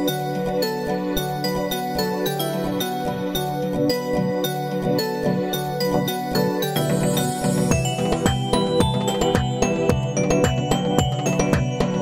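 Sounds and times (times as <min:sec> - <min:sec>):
gentle instrumental music with bell notes: 0:00.0 - 0:12.0.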